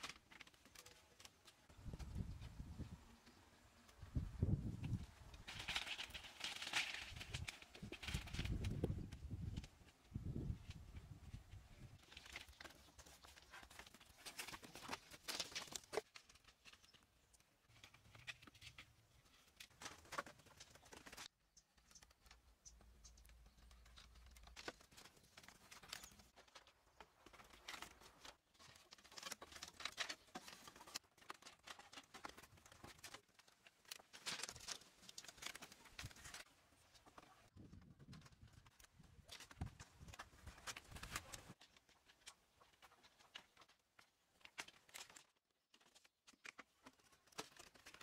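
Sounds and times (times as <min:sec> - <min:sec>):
bamboo crackling and tapping: 0:00.0 - 0:04.1, 0:04.8 - 0:48.0.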